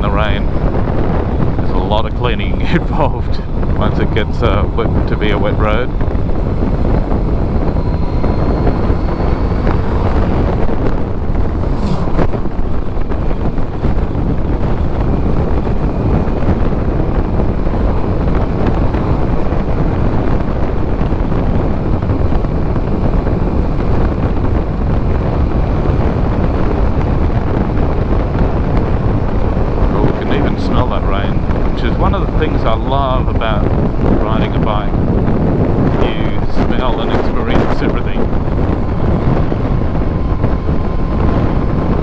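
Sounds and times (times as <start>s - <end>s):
motorcycle engine running: 0.0s - 42.0s
wind rush on microphone: 0.0s - 42.0s.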